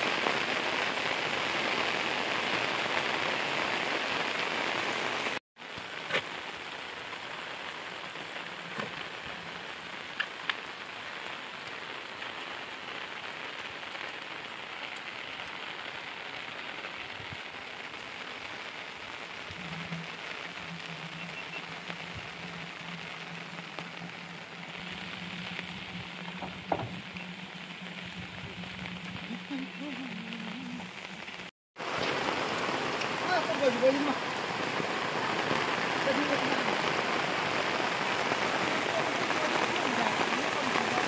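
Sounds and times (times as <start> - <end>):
steady rain hiss: 0.0 - 41.0
raindrop ticks: 5.7 - 41.0.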